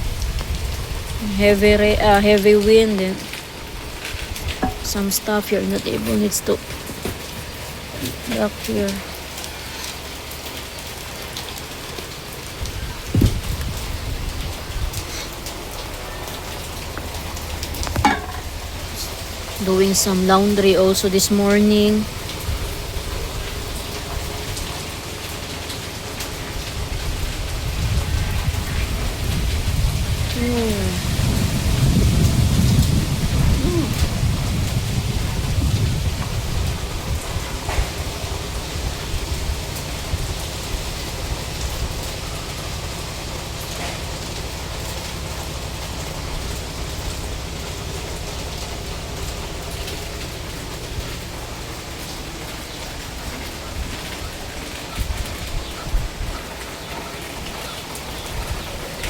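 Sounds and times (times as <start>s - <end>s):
heavy rain falling: 0.0s - 59.0s
strong wind gusts rumbling: 0.0s - 59.0s.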